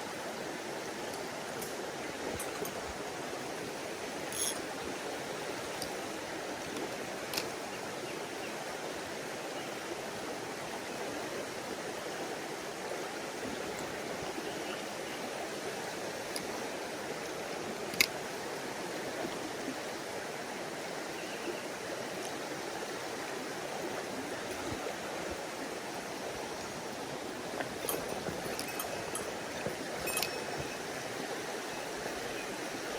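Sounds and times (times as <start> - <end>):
stream water rushing: 0.0 - 32.9.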